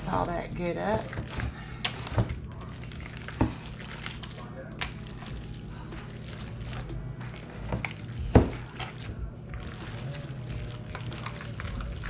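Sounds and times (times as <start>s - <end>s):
hands squishing meat mixture: 0.6s - 12.0s.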